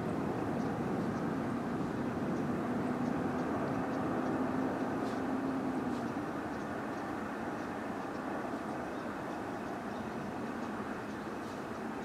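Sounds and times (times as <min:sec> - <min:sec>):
distant vehicle noise: 0:00.0 - 0:12.0
faint high ticks: 0:00.2 - 0:12.0.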